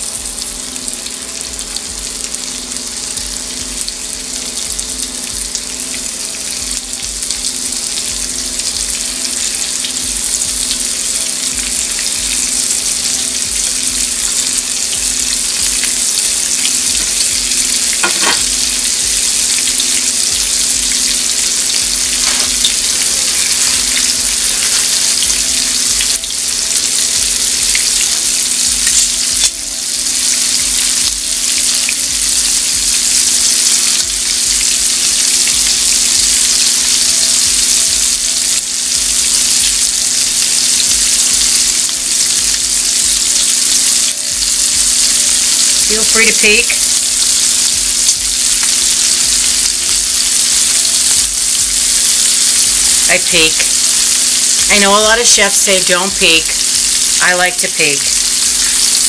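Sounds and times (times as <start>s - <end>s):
shrimp sizzling in a skillet: 0.0s - 59.0s.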